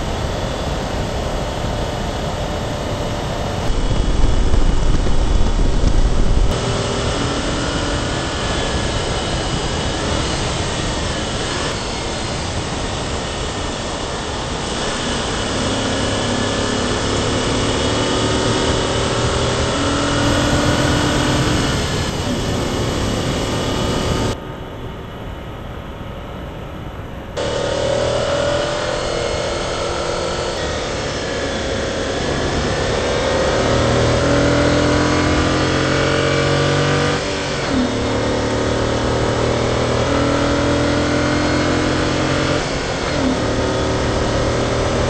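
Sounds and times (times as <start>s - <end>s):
car engine accelerating: 0.0s - 24.4s, 27.4s - 45.0s
distant car: 0.0s - 45.0s
wind and road noise: 0.0s - 45.0s.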